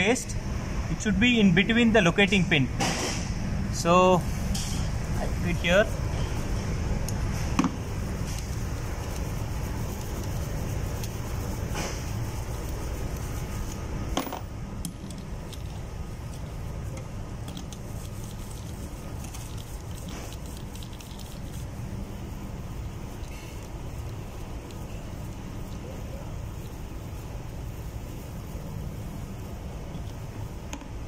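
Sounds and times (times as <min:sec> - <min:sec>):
low machinery drone: 0:00.0 - 0:30.8.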